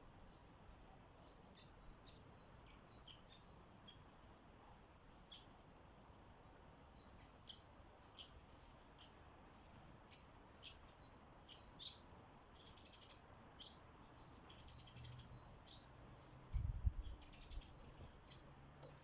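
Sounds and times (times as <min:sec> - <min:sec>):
low steady background hum: 0:00.0 - 0:19.0
sparrows chirping: 0:00.0 - 0:19.0.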